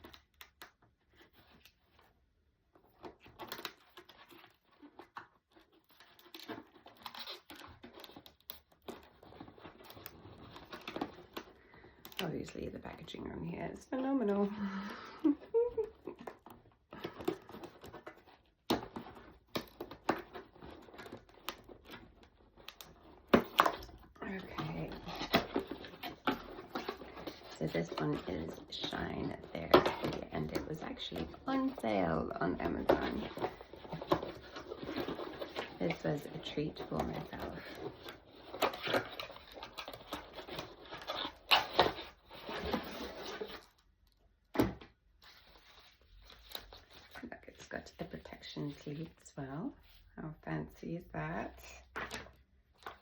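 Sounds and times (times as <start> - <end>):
packaging rustling and clicking: 2.8 - 13.0, 14.8 - 47.2.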